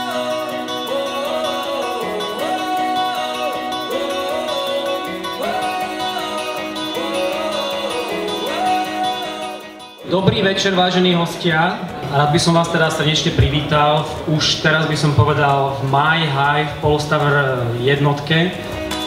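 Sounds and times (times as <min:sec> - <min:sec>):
background song: 0:00.0 - 0:19.0.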